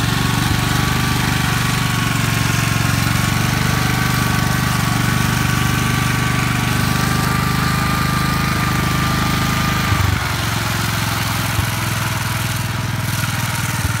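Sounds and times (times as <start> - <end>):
walk-behind tractor engine running: 0.0 - 14.0.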